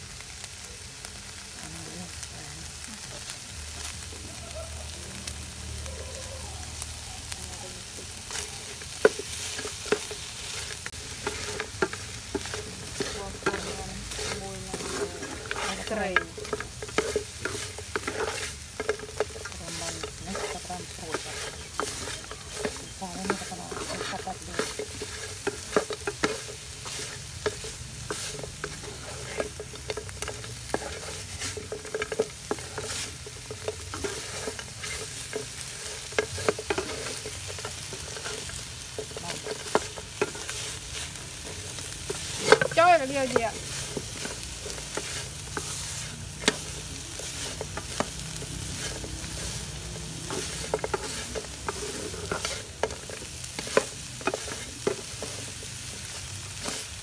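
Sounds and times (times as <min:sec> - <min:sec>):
chicken sizzling in a pan: 0:00.0 - 0:57.0
wooden spatula scraping a pan: 0:05.9 - 0:57.0.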